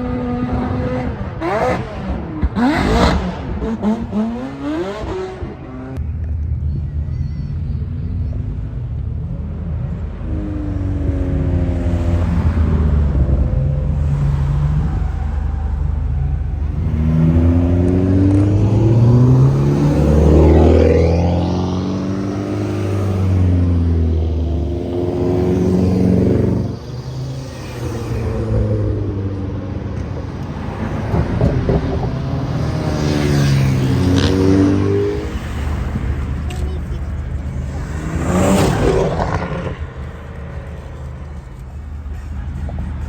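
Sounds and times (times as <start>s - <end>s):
car engine accelerating: 0.0s - 7.1s, 7.8s - 43.0s.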